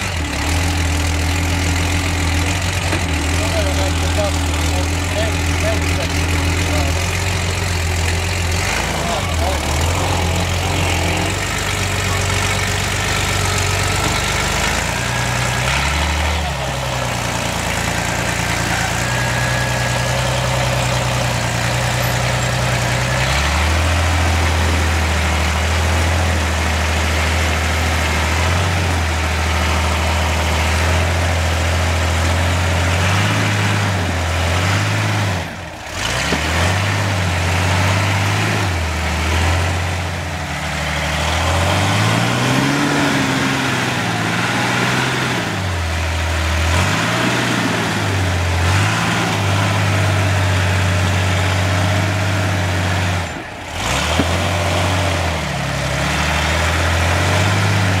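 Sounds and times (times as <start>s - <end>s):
buggy engine revving: 0.0s - 58.0s.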